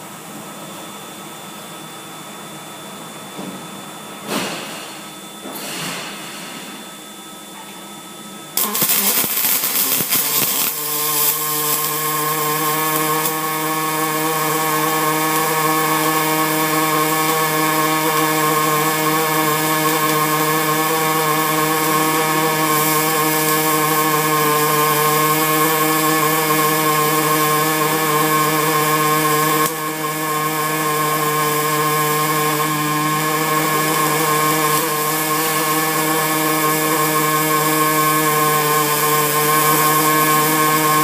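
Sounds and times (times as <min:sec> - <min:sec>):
machine hum: 0:00.0 - 0:41.0
welding arc buzzing and crackling: 0:03.5 - 0:07.4, 0:08.4 - 0:41.0.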